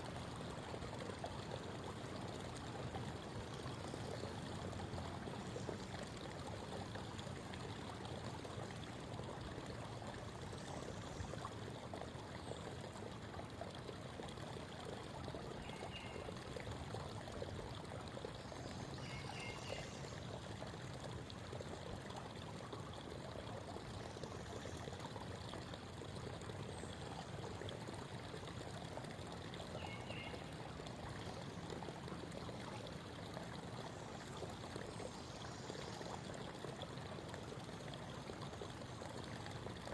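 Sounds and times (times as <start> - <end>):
creek water babbling over stones: 0.0 - 39.9.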